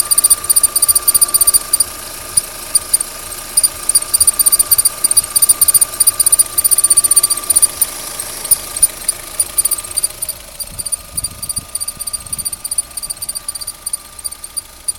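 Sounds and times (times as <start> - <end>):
high-pitched chirps: 0.0 - 14.9
petrol engine running: 0.0 - 14.9.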